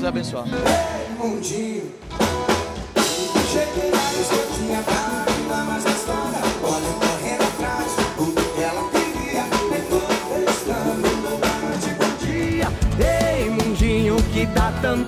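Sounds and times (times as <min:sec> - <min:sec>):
bass guitar: 0:00.0 - 0:15.0
electric guitar: 0:00.0 - 0:15.0
men singing: 0:00.4 - 0:02.1, 0:03.0 - 0:15.0
drum kit beat: 0:00.5 - 0:15.0.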